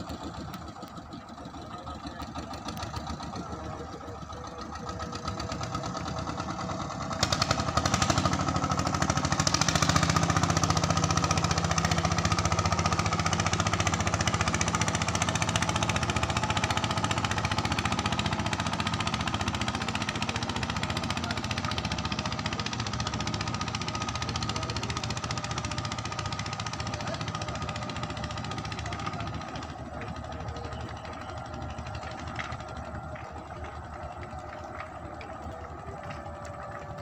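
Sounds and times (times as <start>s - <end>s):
boat engine knocking: 0.0s - 37.0s.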